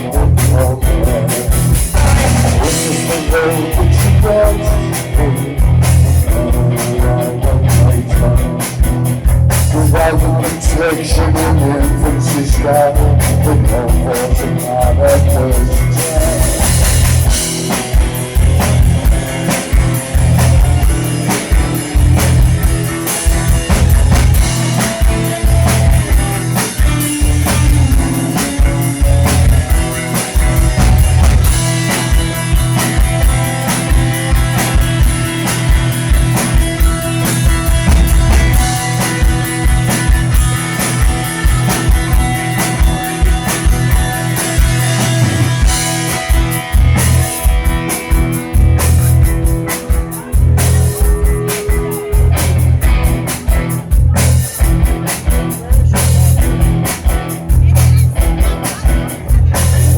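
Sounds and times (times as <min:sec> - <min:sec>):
drum kit beat: 0:00.0 - 0:59.9
electric guitar: 0:00.0 - 0:59.9
heavy bass line: 0:00.0 - 0:59.9.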